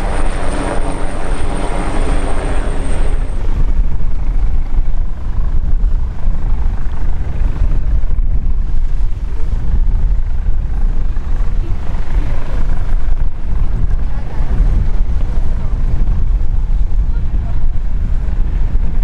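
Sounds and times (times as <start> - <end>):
helicopter rotor chopping: 0.0 - 19.0.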